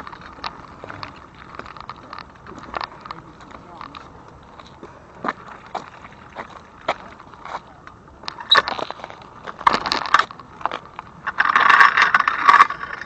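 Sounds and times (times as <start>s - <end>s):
bicycle clicks and rattles: 0.0s - 4.9s, 6.9s - 13.0s
tyres crunching on rough ground: 0.0s - 13.0s.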